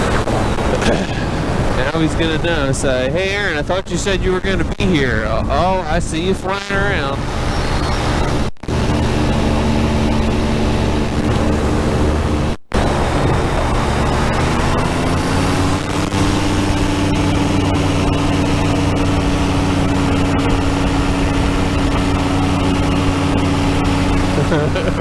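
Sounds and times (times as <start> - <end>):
engine and propeller running: 0.0 - 25.0.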